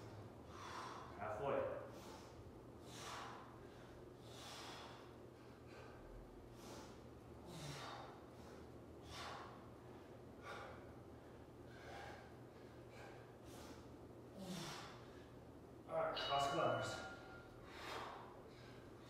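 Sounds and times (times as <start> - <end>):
man breathing hard: 0.0 - 1.2, 1.8 - 15.6, 17.0 - 19.0.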